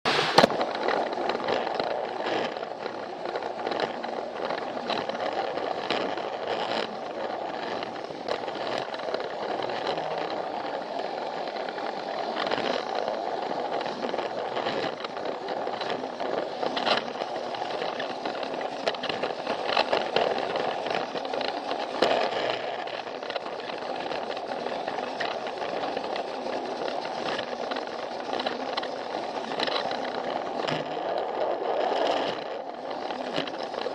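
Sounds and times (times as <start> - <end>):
toy train motor whirring: 0.2 - 33.9
wheels clicking over rail joints: 0.4 - 33.9.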